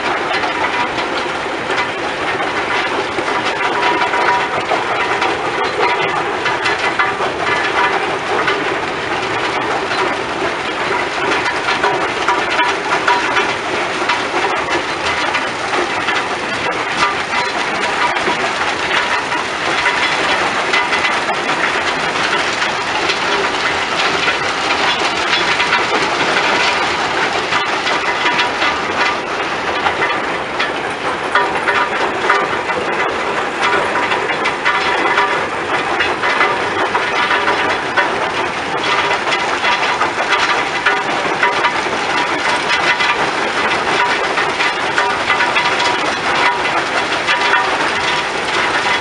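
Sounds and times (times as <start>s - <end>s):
clatter of crushed rock: 0.0s - 49.0s
rock crusher running: 0.0s - 49.0s
belt conveyors running: 4.4s - 49.0s.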